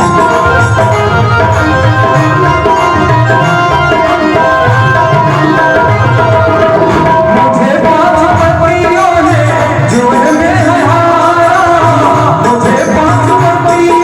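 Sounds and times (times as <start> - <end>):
tabla drumming: 0.0 - 14.0.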